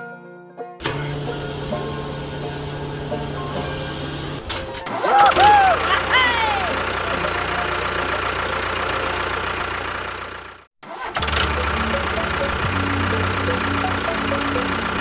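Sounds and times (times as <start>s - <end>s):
small engine running: 0.8s - 15.0s.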